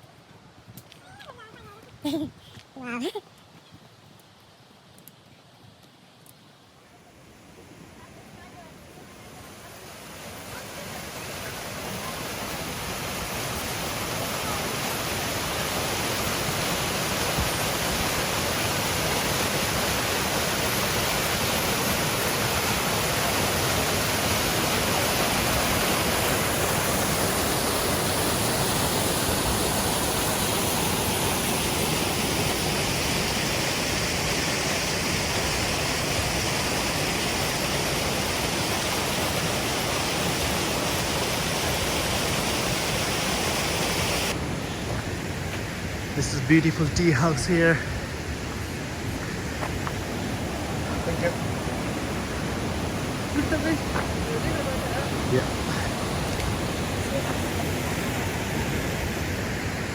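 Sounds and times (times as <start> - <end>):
waterfall rushing: 7.1 - 59.9.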